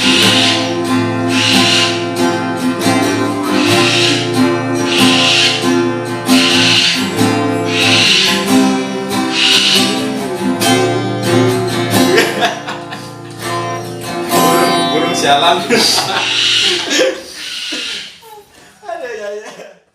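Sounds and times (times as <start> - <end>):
held accompaniment: 0.0 - 17.3
strummed acoustic guitar: 0.0 - 17.3.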